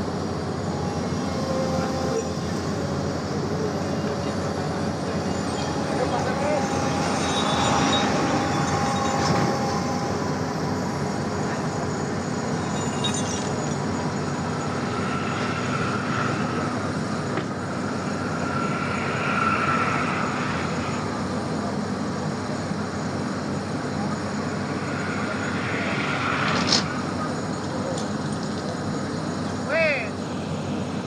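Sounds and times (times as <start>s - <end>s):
heavy vehicle engines running: 0.0s - 31.0s.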